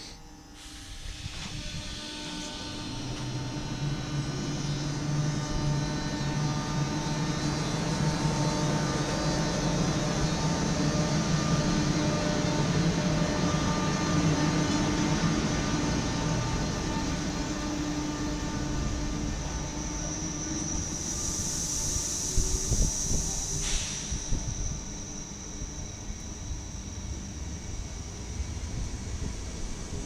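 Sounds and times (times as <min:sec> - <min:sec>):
electric locomotive humming: 0:00.0 - 0:30.0.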